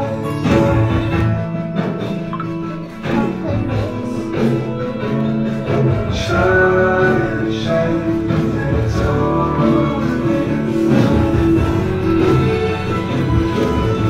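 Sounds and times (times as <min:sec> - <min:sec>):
background music with held notes: 0:00.0 - 0:14.0.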